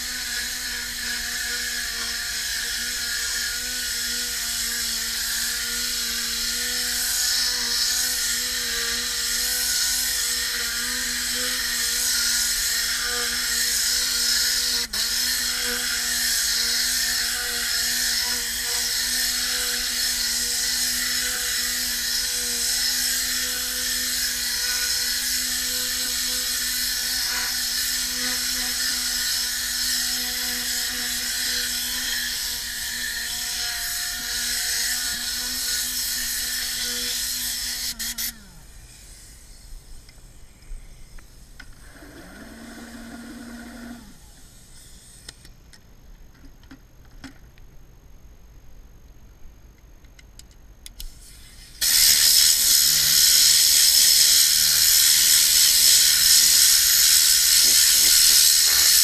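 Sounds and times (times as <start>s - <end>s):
compressed air hissing: 0.0s - 45.5s, 51.0s - 59.0s
spinning nozzle whirring hum: 0.0s - 45.6s, 51.1s - 59.0s.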